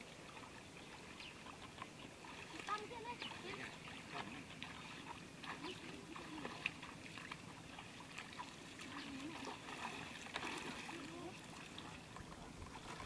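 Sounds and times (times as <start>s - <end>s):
splashing in shallow water: 0.0s - 13.0s.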